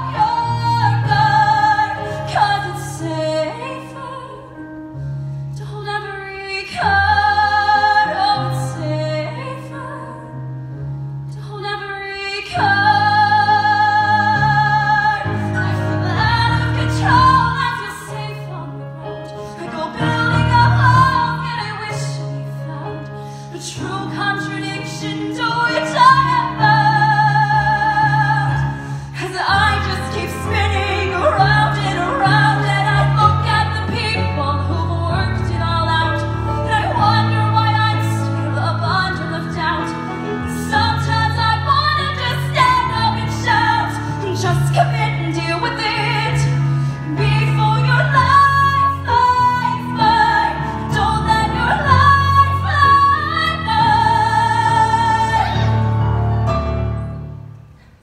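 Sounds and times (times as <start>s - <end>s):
woman singing a ballad: 0.0s - 5.0s, 5.6s - 10.4s, 11.3s - 56.0s.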